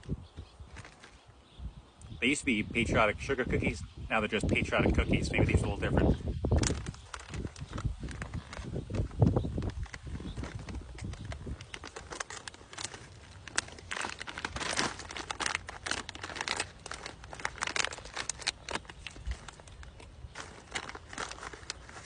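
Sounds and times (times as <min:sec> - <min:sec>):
plastic pouch crinkling: 0:00.6 - 0:01.2, 0:03.6 - 0:22.0.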